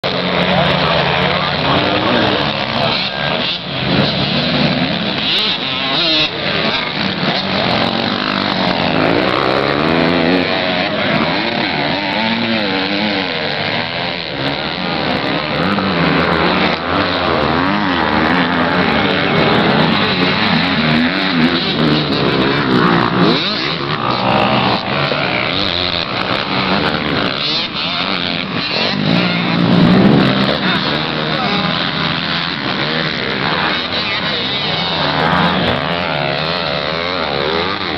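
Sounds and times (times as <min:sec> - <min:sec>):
motocross bike engines revving: 0:00.0 - 0:37.9.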